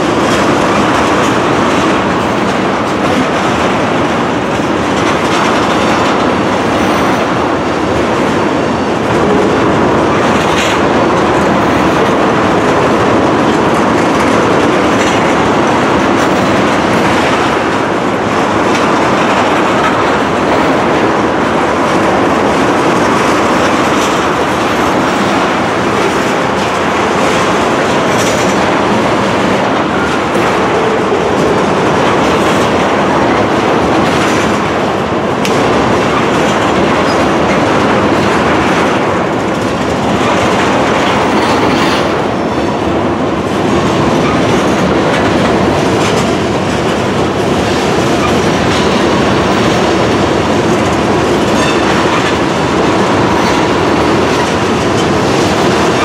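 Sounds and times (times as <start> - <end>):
steel wheels on rail: 0.0 - 56.0
wheels clicking over rail joints: 0.0 - 56.0.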